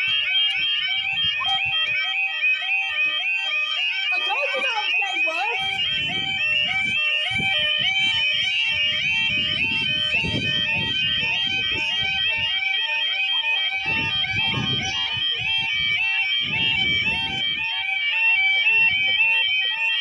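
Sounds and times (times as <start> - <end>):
level crossing alarm warbling: 0.0 - 20.0.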